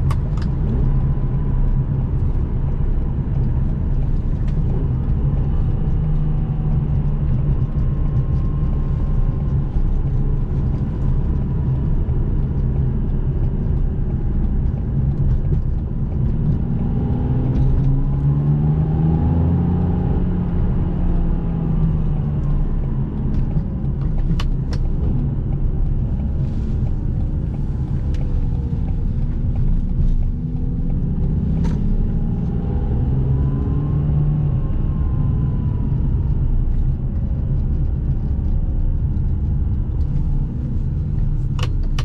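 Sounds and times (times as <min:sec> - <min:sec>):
car engine running: 0:00.0 - 0:42.0
road rumble: 0:00.0 - 0:42.0.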